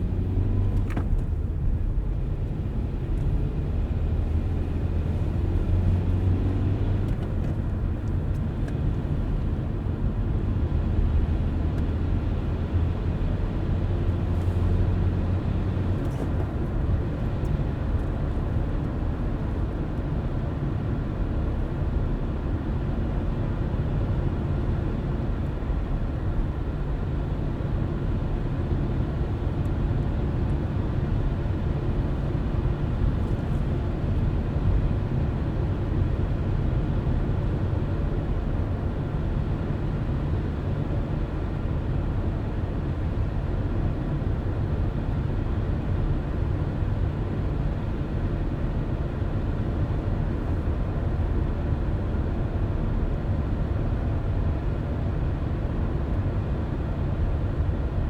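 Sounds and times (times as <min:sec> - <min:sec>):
low engine hum: 0:00.0 - 0:58.0
tyres rumbling on road: 0:00.0 - 0:58.0.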